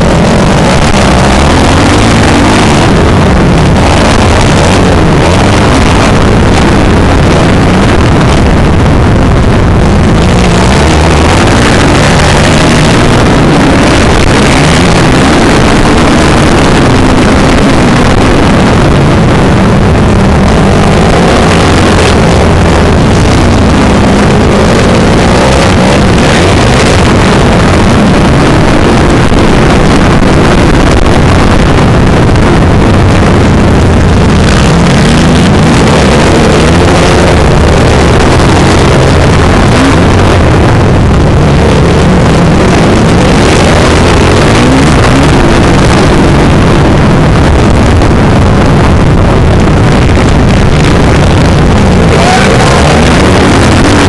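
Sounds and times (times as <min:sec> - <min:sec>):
motocross bike engine revving: 0:00.0 - 0:48.6, 0:49.8 - 0:54.0.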